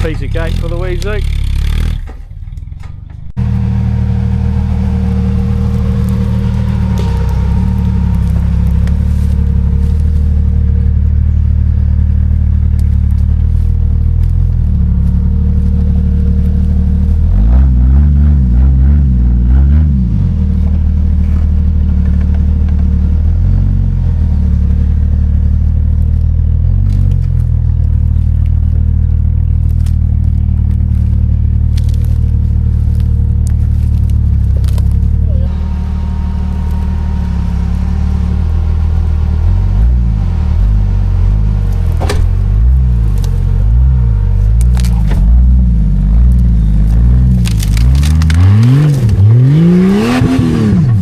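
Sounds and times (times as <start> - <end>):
engine running at low revs: 0.0 - 51.0.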